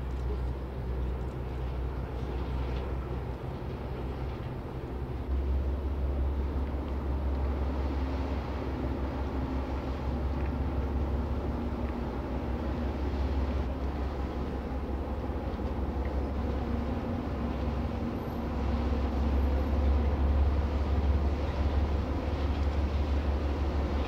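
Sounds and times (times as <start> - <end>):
boat diesel engine droning: 0.0 - 24.0
rushing bow wave water: 0.0 - 24.0.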